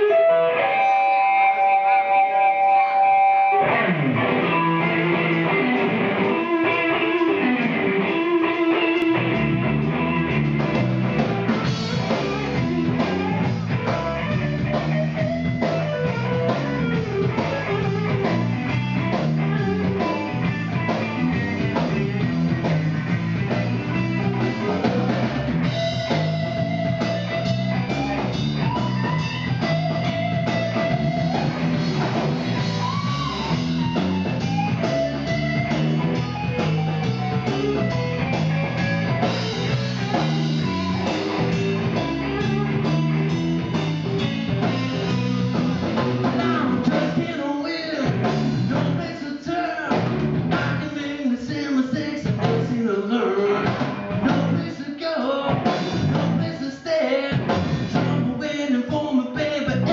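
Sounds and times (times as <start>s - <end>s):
drums and bass band: 0.0s - 59.9s
electric guitar blues solo: 0.0s - 59.9s.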